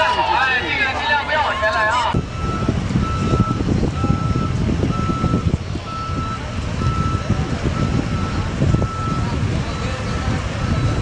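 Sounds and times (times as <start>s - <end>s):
low uneven rumble: 0.0s - 11.0s
electronic warning beeps: 2.2s - 11.0s.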